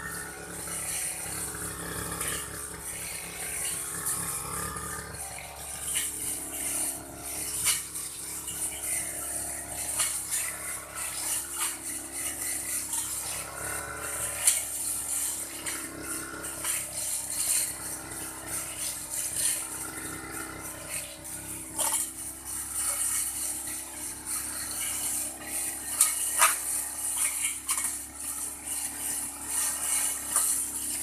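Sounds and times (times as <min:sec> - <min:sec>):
cutter ticking and rattling: 0:00.0 - 0:31.0
grass-cutting machine running: 0:00.0 - 0:31.0.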